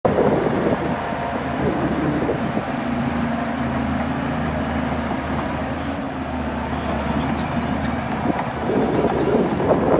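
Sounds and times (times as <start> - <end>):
bulldozer diesel engine running: 0.1 - 9.9.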